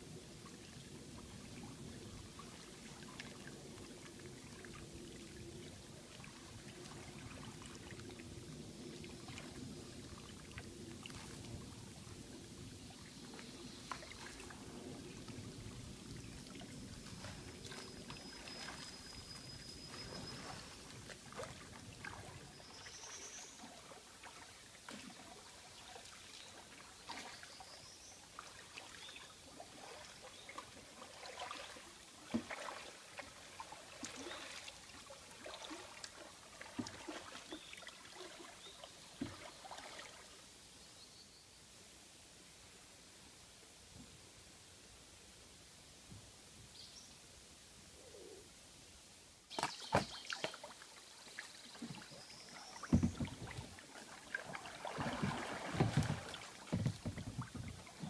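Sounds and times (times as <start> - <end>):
river water running: 0.0 - 47.9, 48.5 - 58.0
small water splashes: 0.5 - 40.4, 49.5 - 58.0.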